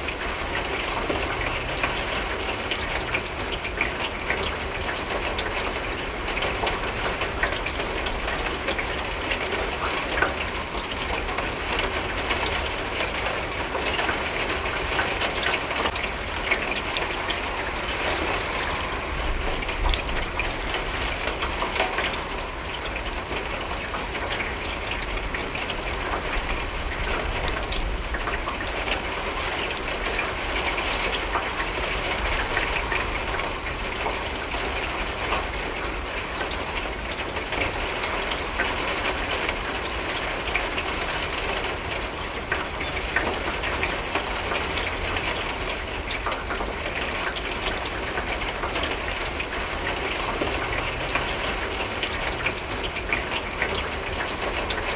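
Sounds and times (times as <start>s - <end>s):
rain striking a window: 0.0s - 54.9s.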